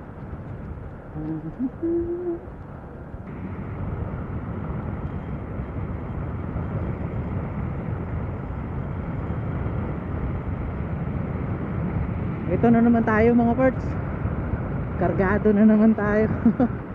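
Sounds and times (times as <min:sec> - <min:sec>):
motorcycle road noise: 0:00.0 - 0:16.9.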